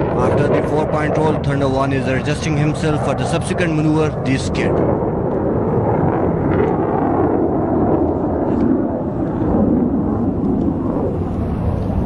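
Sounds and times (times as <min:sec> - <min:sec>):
jet engine roaring: 0:00.0 - 0:12.0.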